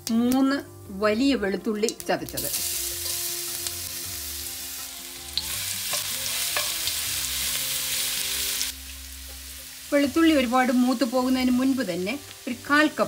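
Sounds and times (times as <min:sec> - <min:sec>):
garlic sizzling in hot oil: 0:01.8 - 0:13.0.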